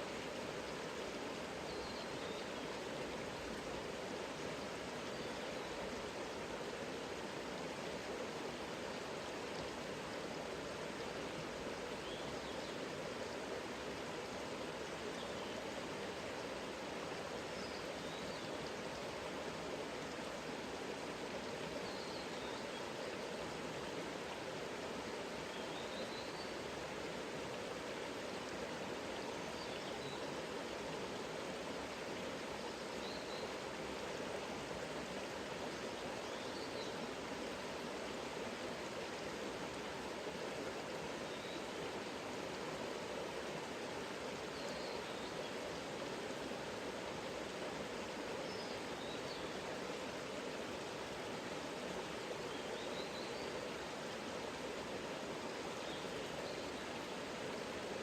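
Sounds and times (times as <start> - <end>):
river running over rocks: 0.0 - 58.0.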